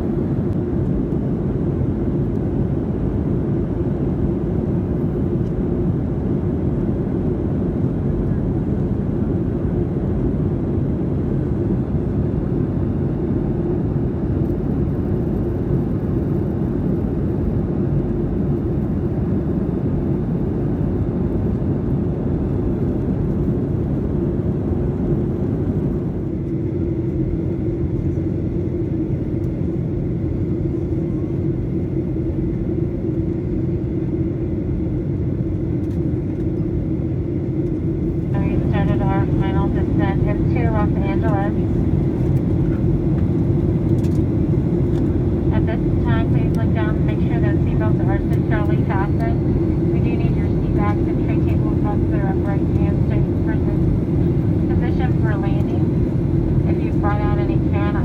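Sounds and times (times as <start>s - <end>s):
constant low hum: 0.0s - 58.0s
jet engine rumble and hiss: 0.0s - 58.0s.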